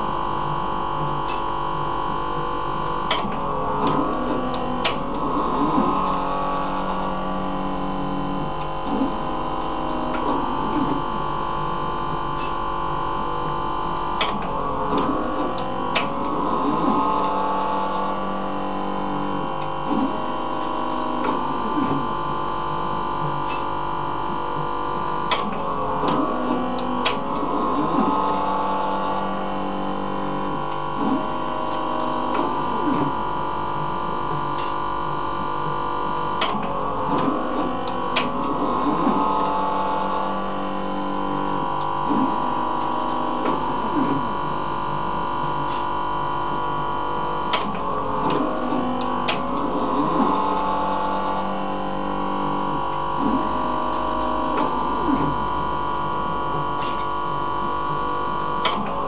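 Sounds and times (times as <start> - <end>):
machine hum with whining tones: 0.0 - 59.0.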